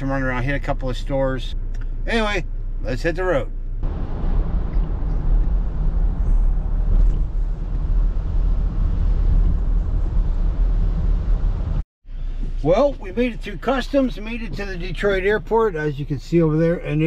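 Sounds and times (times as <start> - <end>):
car road and tyre noise: 0.0 - 17.0.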